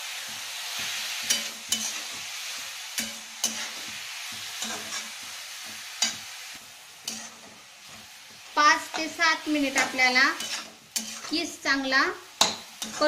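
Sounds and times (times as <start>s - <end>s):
beetroot sizzling in a pan: 0.0s - 13.0s
metal spatula scraping a pan: 0.2s - 6.4s, 7.0s - 11.6s, 12.4s - 13.0s.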